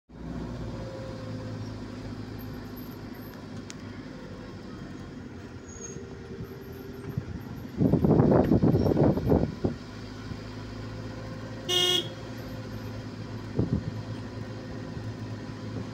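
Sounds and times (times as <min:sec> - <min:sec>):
vehicle engine and road noise: 0:00.1 - 0:15.9.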